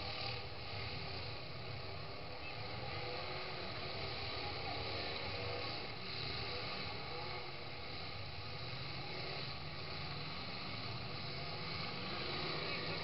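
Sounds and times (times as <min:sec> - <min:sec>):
truck engines droning: 0:00.0 - 0:13.0.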